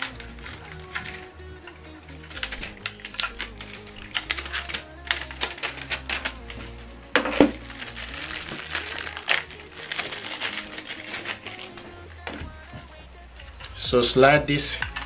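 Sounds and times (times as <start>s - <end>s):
plastic packaging crinkling: 0.0s - 13.9s.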